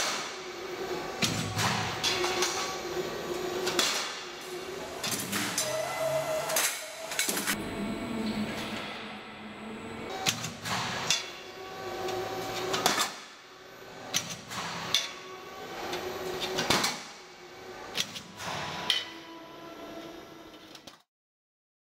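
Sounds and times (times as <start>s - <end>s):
machine hum: 0.0s - 20.8s.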